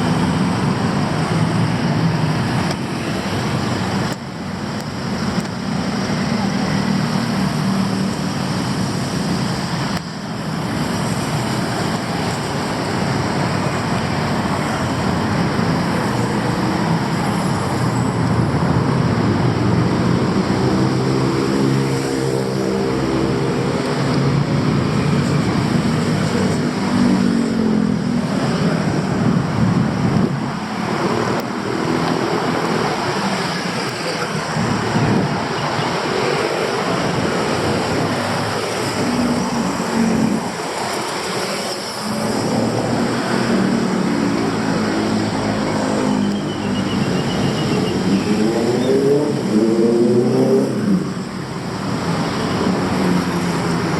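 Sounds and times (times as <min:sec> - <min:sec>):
passing cars: 0:00.0 - 0:53.9.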